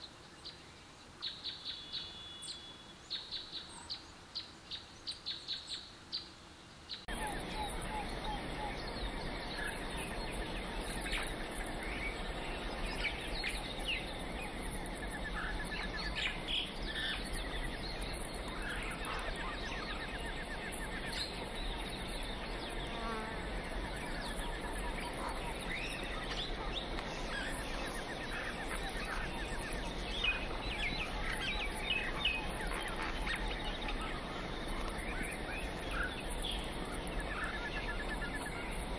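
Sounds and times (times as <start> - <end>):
insects buzzing: 0.0 - 38.9
steady background hiss: 0.0 - 38.9
birds chirping and trilling: 6.9 - 38.9.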